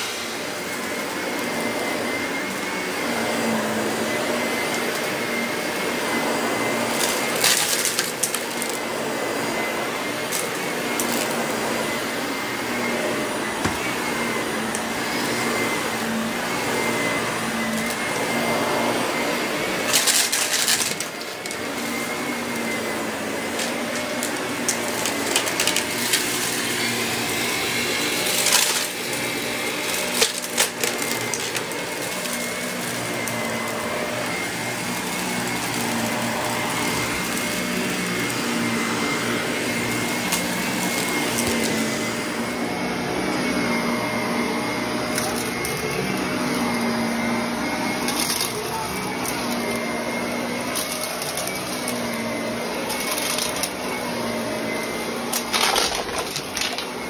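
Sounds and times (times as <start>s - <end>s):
vacuum cleaner motor whine: 0.0s - 57.0s
debris rattling in vacuum: 0.1s - 12.1s, 12.7s - 42.2s, 43.1s - 57.0s.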